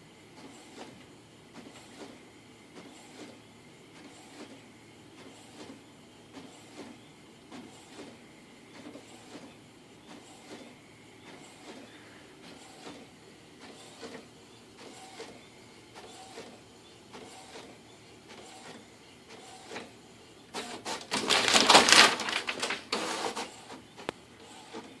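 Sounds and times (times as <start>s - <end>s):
printer printing: 0.0s - 25.0s.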